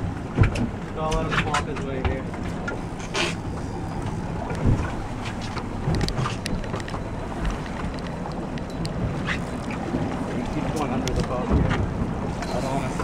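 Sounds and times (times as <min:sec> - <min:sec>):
outboard motor running: 0:00.0 - 0:13.0
water splashing: 0:00.0 - 0:13.0
wind buffeting microphone: 0:00.0 - 0:13.0.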